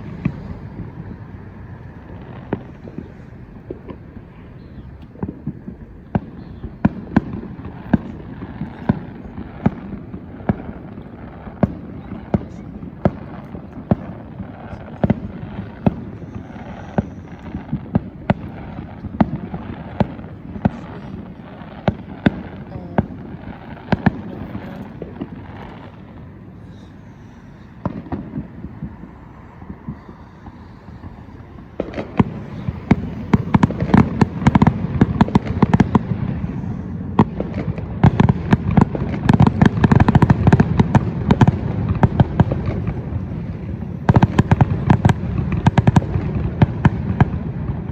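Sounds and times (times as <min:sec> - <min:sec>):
continuous rumble: 0:00.0 - 0:47.9
fireworks cracks and bangs: 0:00.0 - 0:47.9
rapid fireworks crackling: 0:00.0 - 0:47.9.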